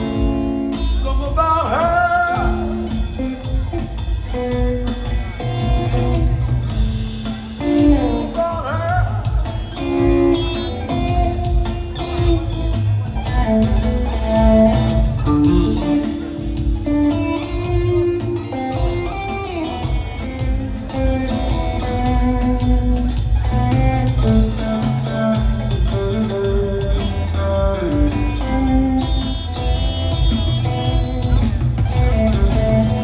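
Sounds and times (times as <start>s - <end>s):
live rock band instrumental: 0.0s - 33.0s.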